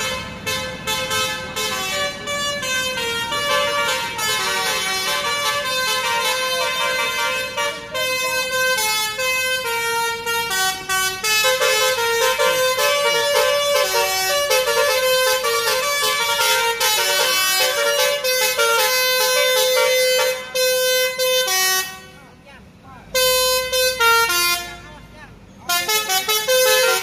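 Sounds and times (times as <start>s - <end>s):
musical air horn playing a melody: 0.0s - 22.2s, 23.2s - 24.9s, 25.7s - 27.0s.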